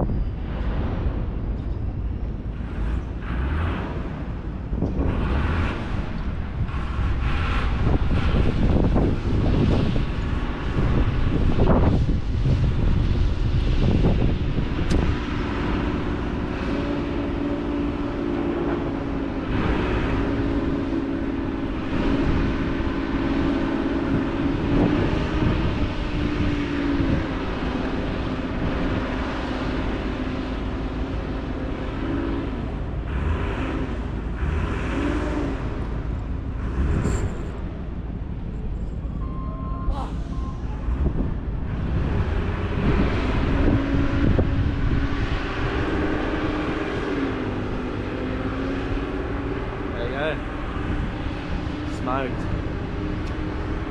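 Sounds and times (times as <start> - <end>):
wind rumbling on microphone: 0.0 - 53.9.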